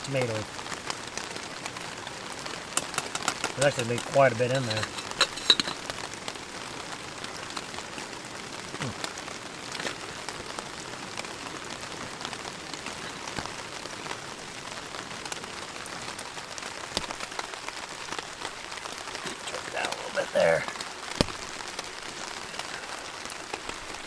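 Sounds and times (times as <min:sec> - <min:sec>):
heavy rain on a tent: 0:00.0 - 0:24.0.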